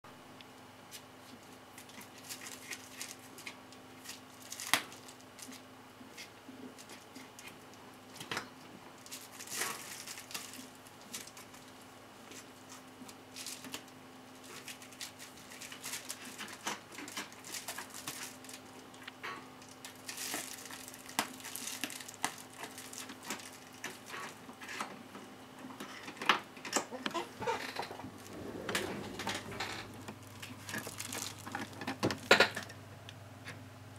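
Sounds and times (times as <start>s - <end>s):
faint steady hum: 0.1s - 33.9s
kitten paws tapping and crinkling: 0.9s - 27.9s, 29.7s - 32.8s.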